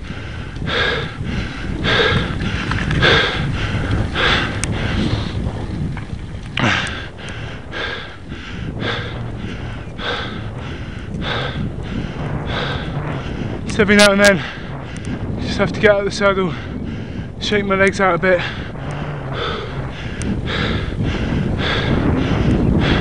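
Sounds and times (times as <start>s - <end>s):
cyclist breathing hard: 0.0s - 23.0s
wind rumble on microphone: 0.0s - 23.0s.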